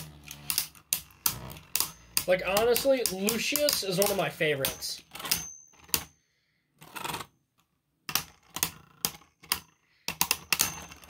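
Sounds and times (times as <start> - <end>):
spinning tops clicking and clacking: 0.0 - 6.1, 8.1 - 11.0.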